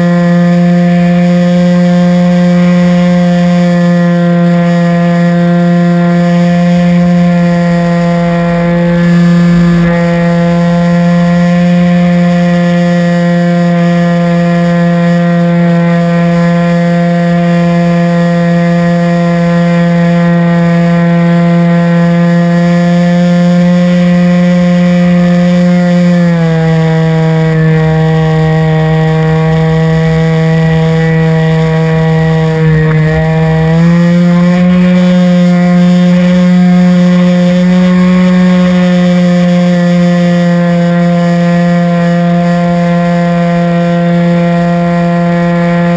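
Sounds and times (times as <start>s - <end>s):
model airplane motor and propeller: 0.0s - 45.9s.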